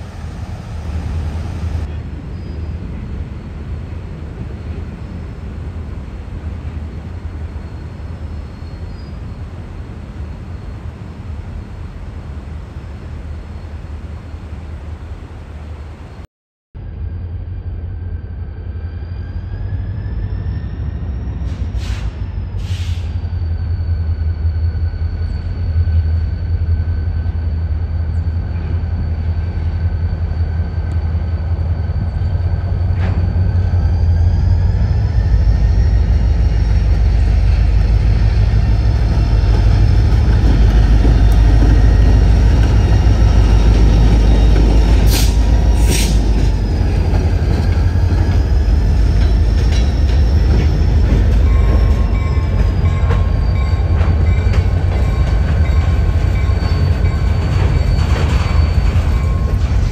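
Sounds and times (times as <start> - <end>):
locomotive engine drone: 0.0 - 16.2, 16.8 - 59.9.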